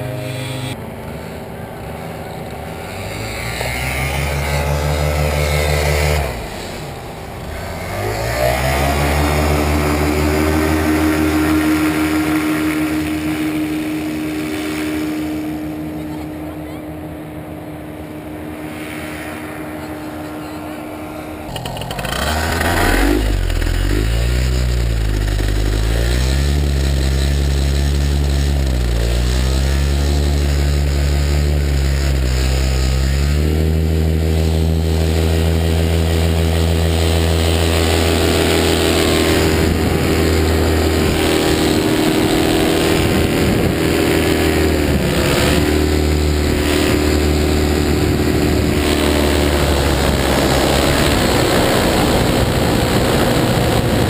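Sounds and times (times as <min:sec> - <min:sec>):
paramotor engine revving: 0:00.0 - 0:54.0.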